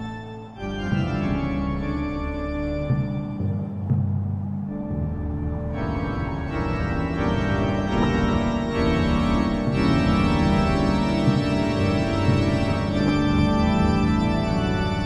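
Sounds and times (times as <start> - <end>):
black metal music: 0.0 - 15.0
organ-like keyboard chords: 0.0 - 15.0.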